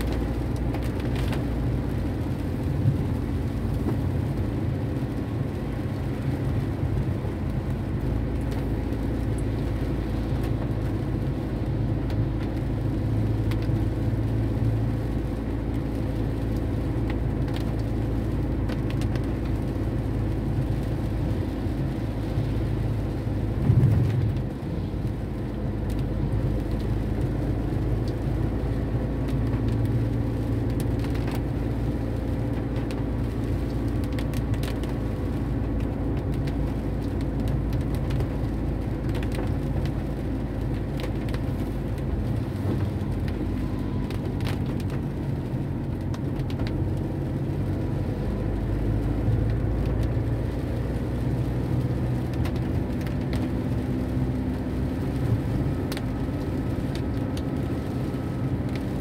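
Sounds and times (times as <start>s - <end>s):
engine and tyre hum on wet road: 0.0s - 59.0s
raindrops tapping on windshield: 0.0s - 59.0s.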